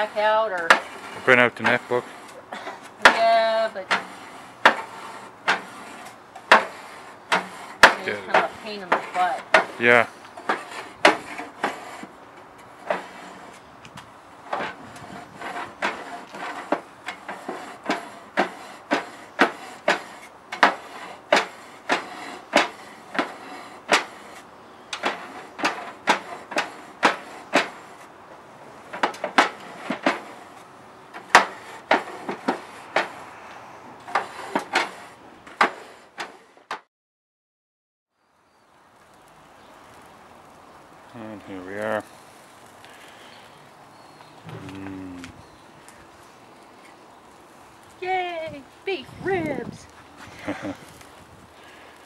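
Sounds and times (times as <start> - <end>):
wire brush scrubbing metal grill grate: 0.0 - 36.7, 45.8 - 52.0.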